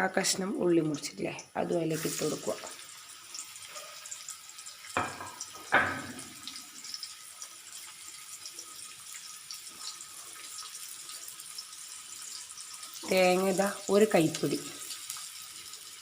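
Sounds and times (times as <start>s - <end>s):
garlic and onion sizzling in oil: 0.0s - 16.0s.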